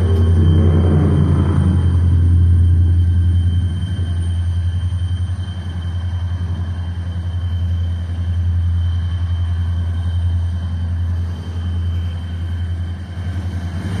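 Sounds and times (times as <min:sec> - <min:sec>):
diesel locomotive engine rumble: 0:00.0 - 0:14.0
turbocharger whine: 0:00.0 - 0:14.0.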